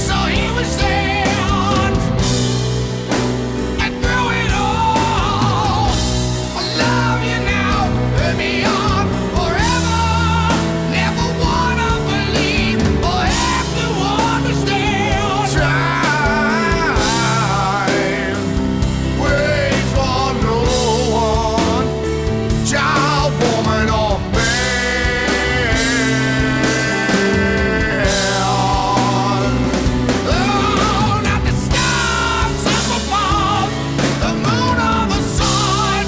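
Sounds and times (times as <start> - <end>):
guitar and keyboard chords: 0.0 - 36.0
rock song: 0.0 - 36.0
steady drum beat: 0.0 - 36.0
vibrato lead vocal: 0.0 - 36.0.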